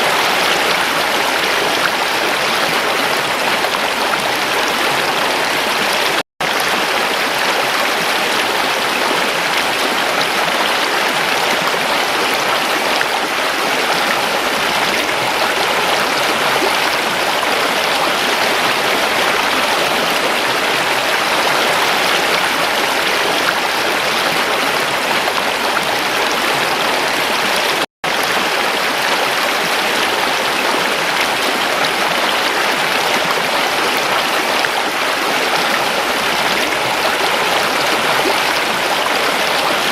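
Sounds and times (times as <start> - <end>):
water stream flowing: 0.0 - 39.9.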